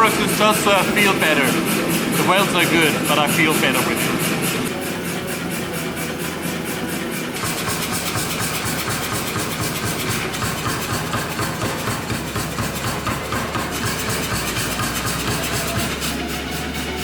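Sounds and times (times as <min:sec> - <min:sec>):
power hammer blows on metal: 0:00.0 - 0:17.0.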